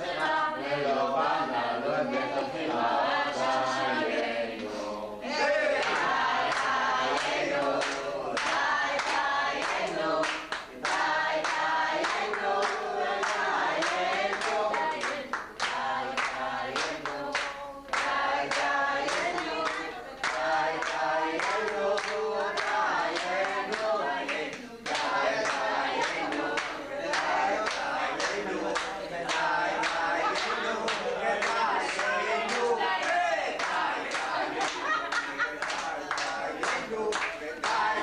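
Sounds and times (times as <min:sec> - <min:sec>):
group of voices singing: 0:00.0 - 0:38.0
hands clapping: 0:05.8 - 0:38.0.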